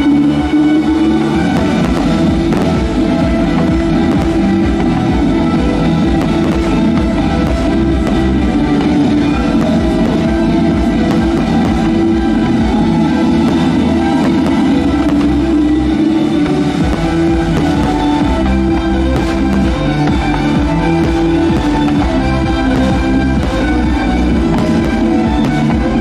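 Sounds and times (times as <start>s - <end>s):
loud rock music: 0.0s - 26.0s.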